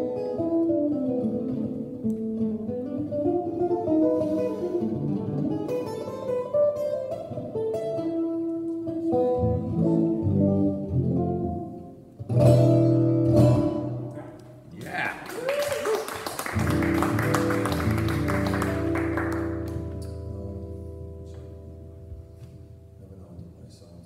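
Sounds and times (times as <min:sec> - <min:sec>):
solo guitar instrumental: 0:00.0 - 0:14.7, 0:16.5 - 0:23.4.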